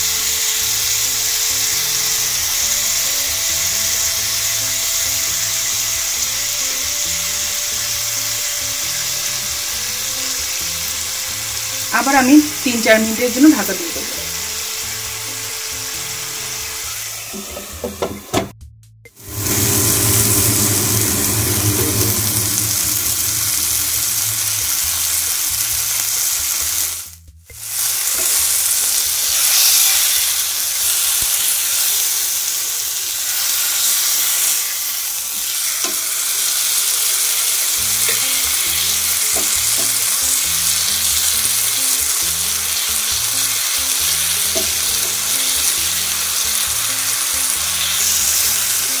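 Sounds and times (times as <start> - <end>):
fish sizzling in a pan: 0.0 - 18.1, 19.2 - 49.0.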